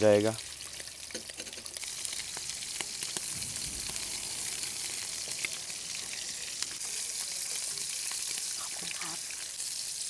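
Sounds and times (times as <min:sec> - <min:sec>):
shrimp sizzling in oil: 0:00.0 - 0:10.0.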